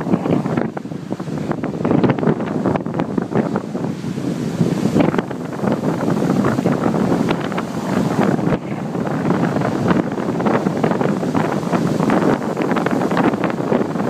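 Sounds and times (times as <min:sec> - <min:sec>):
waves splashing against seawall: 0:00.0 - 0:14.0
wind buffeting microphone: 0:00.0 - 0:14.0.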